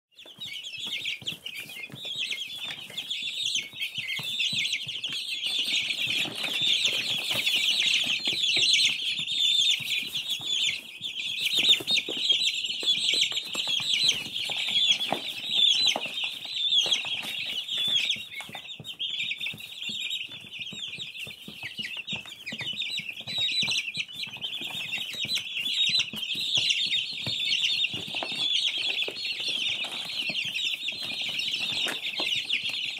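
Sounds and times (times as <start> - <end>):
chicks peeping: 0.1 - 32.9.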